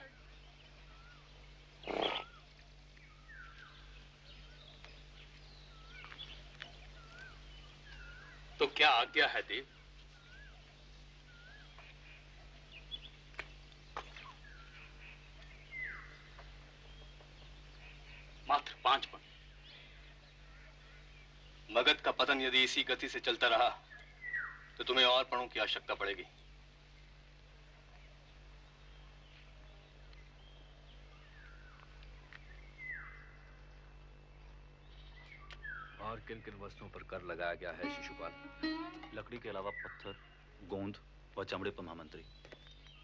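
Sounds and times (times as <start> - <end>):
birds calling: 0.0 - 43.0
steady low hum: 0.0 - 43.0.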